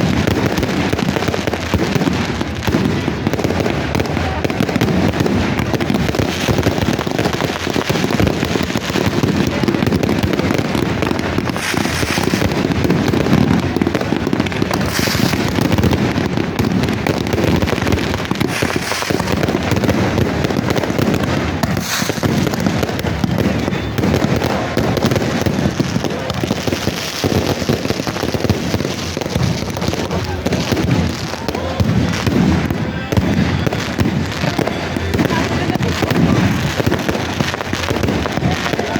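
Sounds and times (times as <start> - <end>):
firecrackers crackling: 0.0 - 38.9
hissing firework bursts: 0.0 - 38.9.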